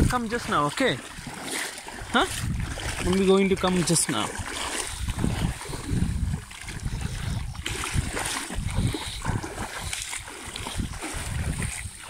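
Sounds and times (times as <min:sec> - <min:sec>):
feet splashing through water: 0:00.0 - 0:12.0
low rumbling: 0:01.0 - 0:12.0.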